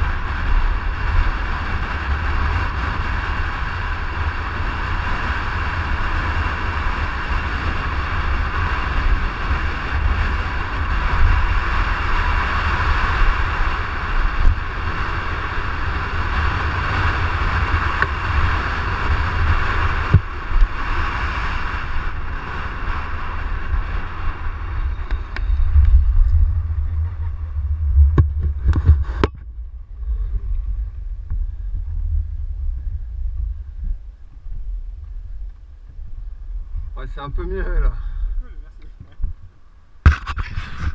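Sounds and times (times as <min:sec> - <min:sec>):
skate wheels rolling on asphalt: 0:00.0 - 0:40.9
wind buffeting microphone: 0:00.0 - 0:40.9.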